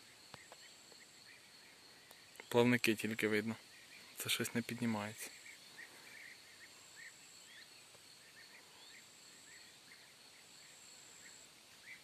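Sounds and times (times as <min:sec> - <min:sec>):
insect trill: 0:00.0 - 0:12.0.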